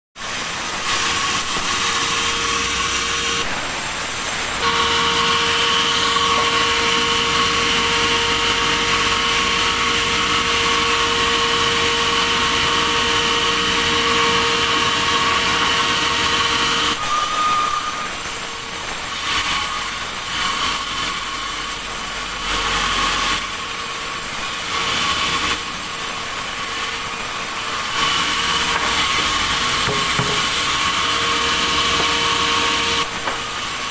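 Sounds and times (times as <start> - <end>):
sawmill saw cutting log: 0.2 - 33.9.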